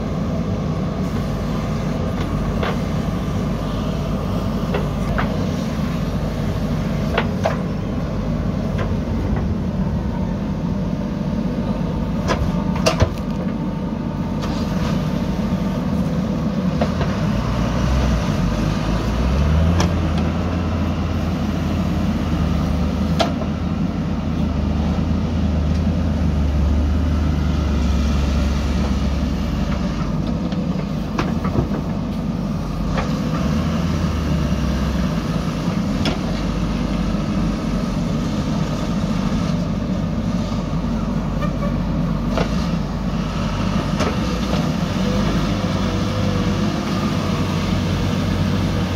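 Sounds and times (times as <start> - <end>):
deep engine hum: 0.0 - 48.9
diesel engine running under load: 0.0 - 48.9.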